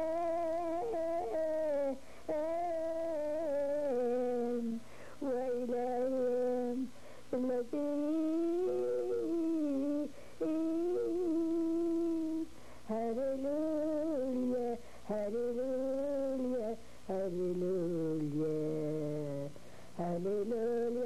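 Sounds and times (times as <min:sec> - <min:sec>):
lower voice singing: 0:00.0 - 0:21.0
woman singing unaccompanied: 0:00.0 - 0:21.0.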